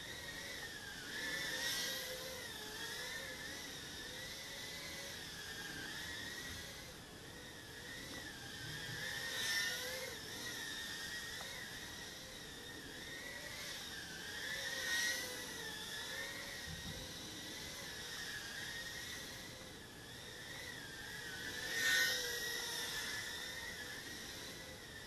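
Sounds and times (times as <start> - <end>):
small drone motors whining: 0.0 - 25.0.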